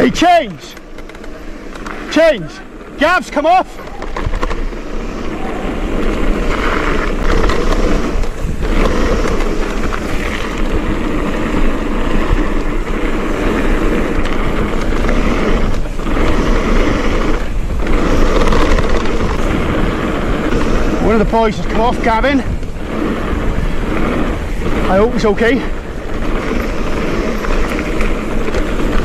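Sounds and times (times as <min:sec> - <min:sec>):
bike rattle: 0:00.0 - 0:29.0
bike tyre noise: 0:00.0 - 0:29.0
wind on microphone: 0:03.8 - 0:29.0.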